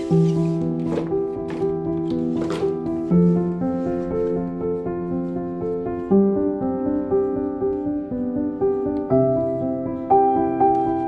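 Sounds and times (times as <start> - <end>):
gentle piano notes: 0.0 - 11.0.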